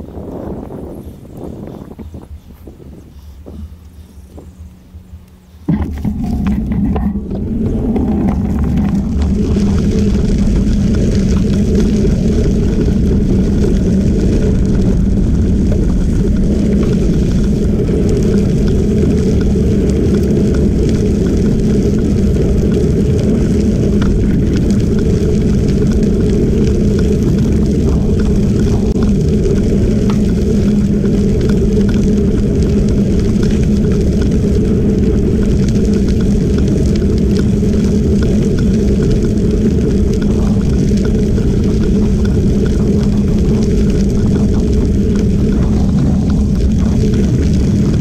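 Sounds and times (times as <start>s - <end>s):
wind rumble on microphone: 0.0s - 48.0s
tyre noise on gravel: 5.6s - 48.0s.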